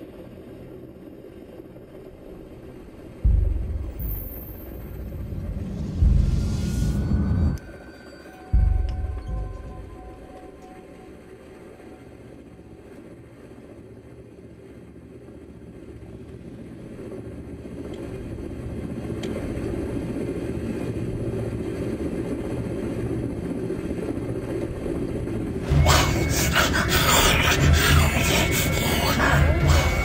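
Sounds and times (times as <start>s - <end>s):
low rumbling drone: 0.0s - 13.9s, 14.6s - 30.0s.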